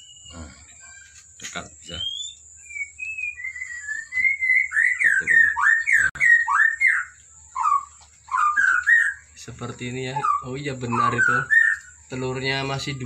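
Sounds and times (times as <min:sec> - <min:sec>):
bird whistling notes: 0:00.0 - 0:01.0, 0:01.8 - 0:13.0.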